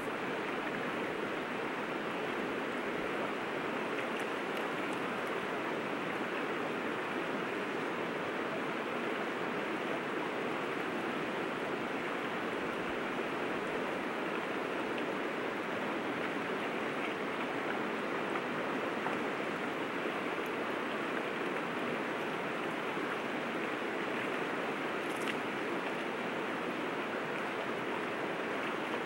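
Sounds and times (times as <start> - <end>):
river water flowing: 0.0 - 29.0.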